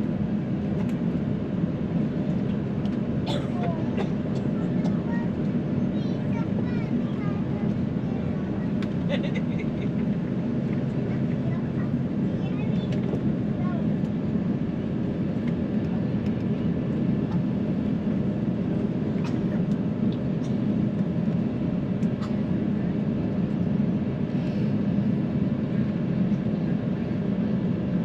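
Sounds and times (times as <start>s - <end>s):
aircraft cabin engine noise: 0.0s - 28.0s.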